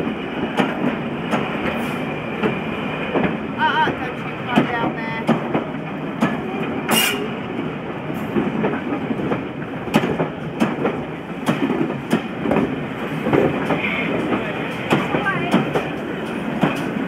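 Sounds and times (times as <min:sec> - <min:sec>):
train rumbling: 0:00.0 - 0:17.0
train wheels clacking over rail joints: 0:00.0 - 0:17.0.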